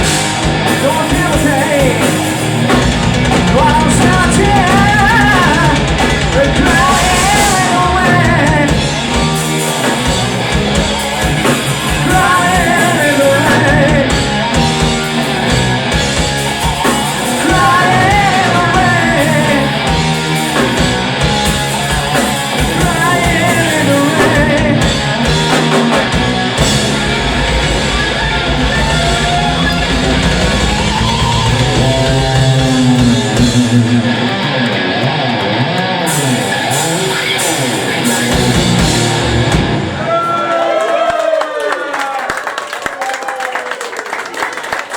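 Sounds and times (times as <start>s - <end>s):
rock band playing live: 0.0s - 40.4s.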